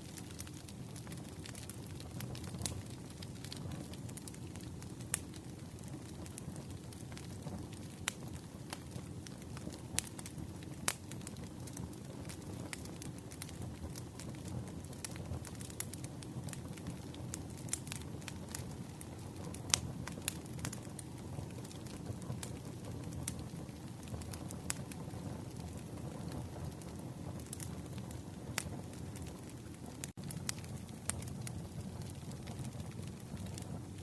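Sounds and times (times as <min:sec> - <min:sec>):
campfire rumbling: 0:00.0 - 0:34.0
wood crackling and popping: 0:00.0 - 0:34.0.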